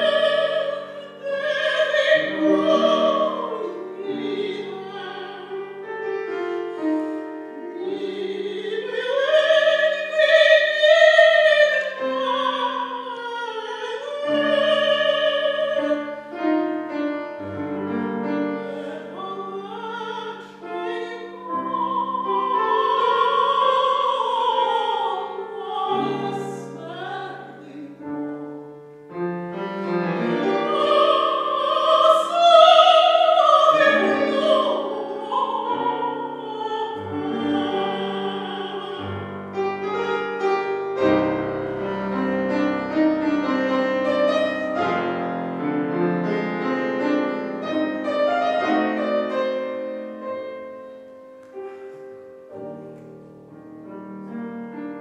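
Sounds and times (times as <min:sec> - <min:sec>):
grand piano: 0:00.0 - 0:55.0
woman singing classical style: 0:00.0 - 0:55.0.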